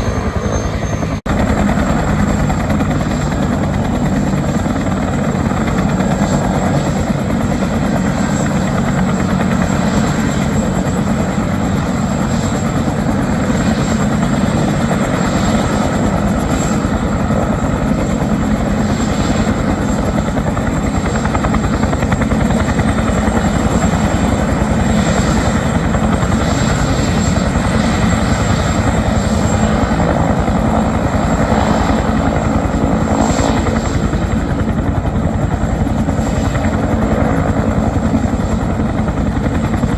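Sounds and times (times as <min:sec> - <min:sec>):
helicopter rotor chopping: 0:00.0 - 0:39.9
high helicopter whine: 0:00.0 - 0:39.9.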